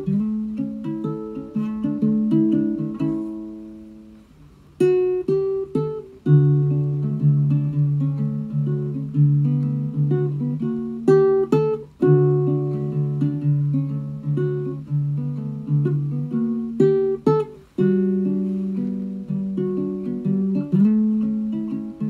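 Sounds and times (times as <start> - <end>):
ukulele played fingerstyle: 0.0 - 22.0.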